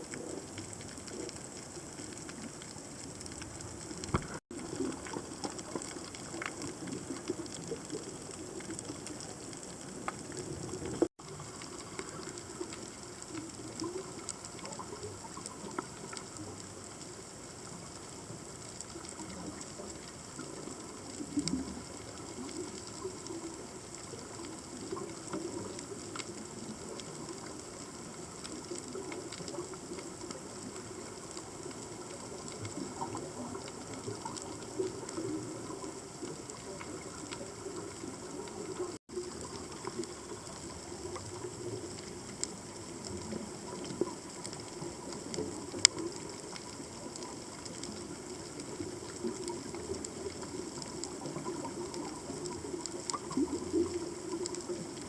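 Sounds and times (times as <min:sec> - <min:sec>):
faint clicks: 0:00.0 - 0:55.0
underwater rushing water: 0:00.0 - 0:55.0.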